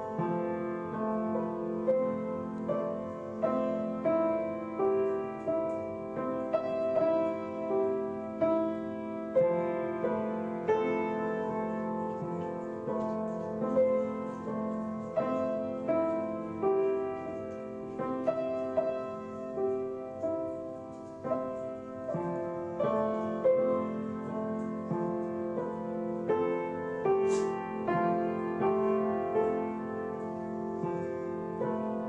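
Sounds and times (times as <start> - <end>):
slow gentle piano melody: 0.0 - 32.0.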